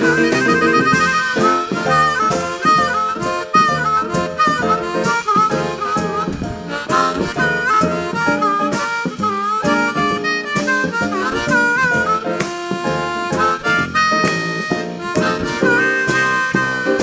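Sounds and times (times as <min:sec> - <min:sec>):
blues band playing: 0:00.0 - 0:17.0
harmonica soloing: 0:00.0 - 0:17.0.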